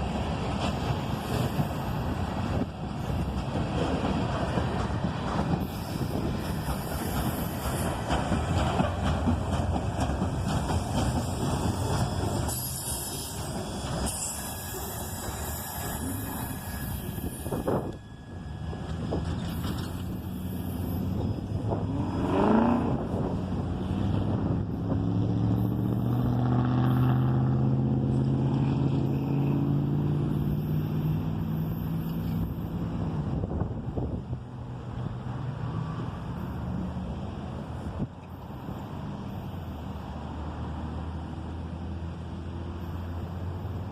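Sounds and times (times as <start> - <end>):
freight train wheels rumbling on rail: 0.0 - 43.9.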